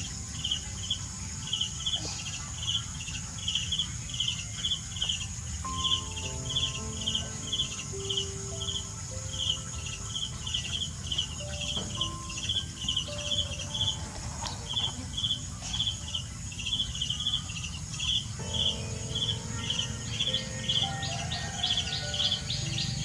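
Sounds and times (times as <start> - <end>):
insect chirping: 0.0 - 23.0.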